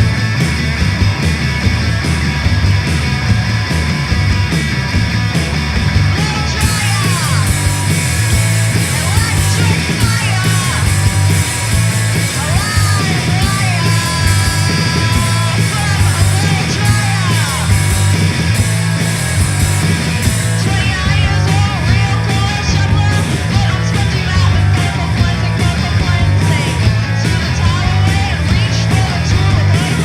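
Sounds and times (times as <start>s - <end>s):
punk rock band playing: 0.0s - 30.0s.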